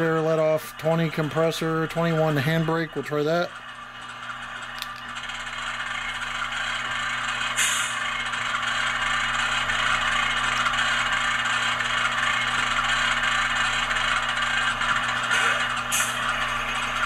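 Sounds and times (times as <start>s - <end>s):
diesel locomotive idling from speaker: 0.0s - 17.0s.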